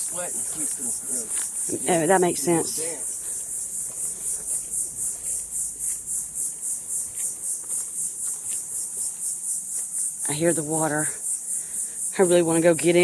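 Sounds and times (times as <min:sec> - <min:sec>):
insects pulsing chorus: 0:00.0 - 0:13.0.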